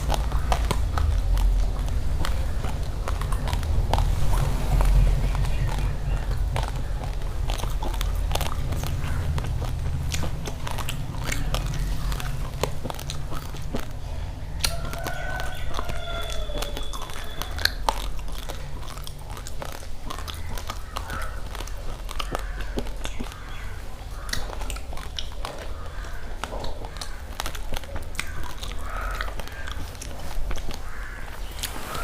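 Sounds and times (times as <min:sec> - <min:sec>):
rice grains crunched by teeth: 0:00.0 - 0:32.0
steady low hum: 0:00.0 - 0:32.0.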